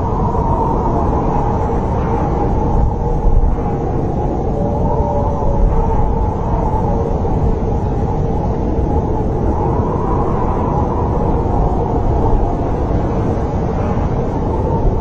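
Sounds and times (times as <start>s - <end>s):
snowstorm wind blowing: 0.0s - 15.0s.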